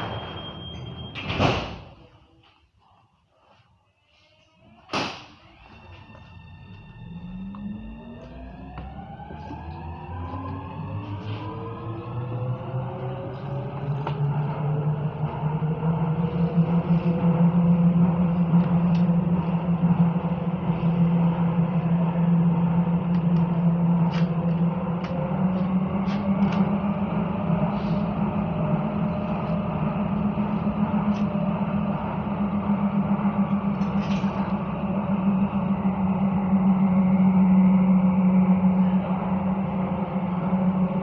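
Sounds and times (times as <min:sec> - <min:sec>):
train hum: 0:00.0 - 0:02.2, 0:05.3 - 0:41.0.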